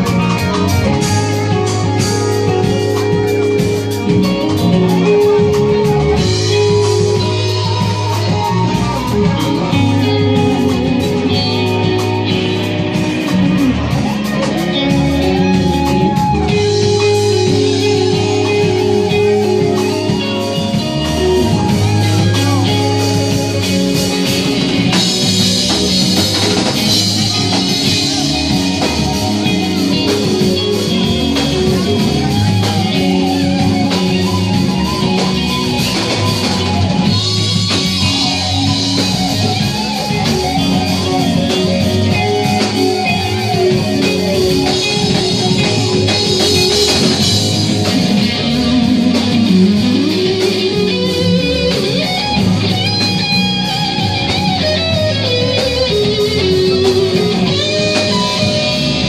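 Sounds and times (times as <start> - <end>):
drum kit: 0.0 - 59.0
electric bass line: 0.0 - 59.0
electric guitars: 0.0 - 59.0.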